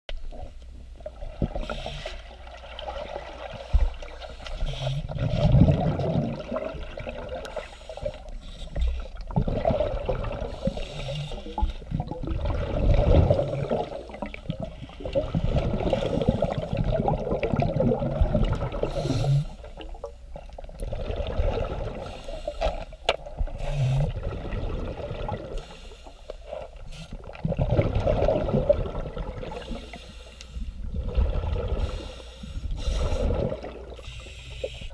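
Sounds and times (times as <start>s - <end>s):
underwater regulator bubbles: 0.1s - 25.8s, 26.4s - 34.9s.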